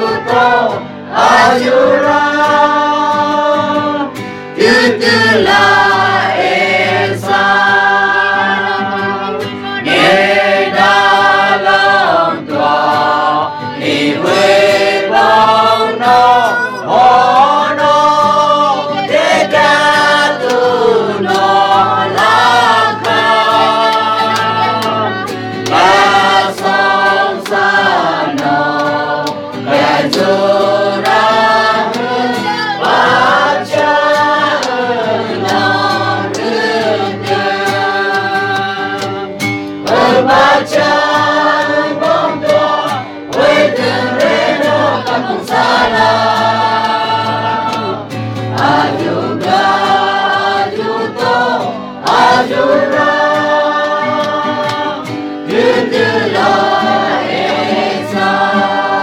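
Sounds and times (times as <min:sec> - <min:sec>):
group singing a hymn: 0:00.0 - 0:59.0.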